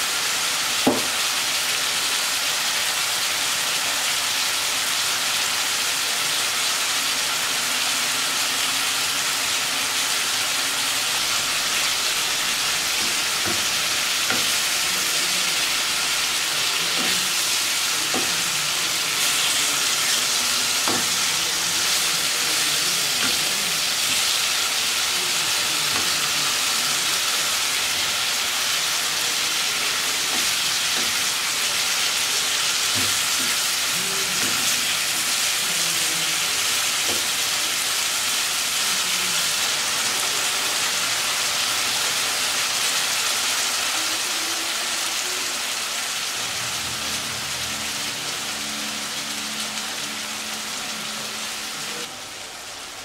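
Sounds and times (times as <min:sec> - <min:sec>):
food sizzling in a frying pan: 0:00.0 - 0:53.0.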